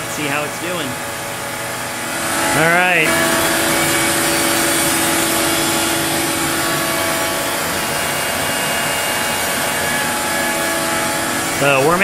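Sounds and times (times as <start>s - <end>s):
router spindle humming: 0.0s - 12.0s.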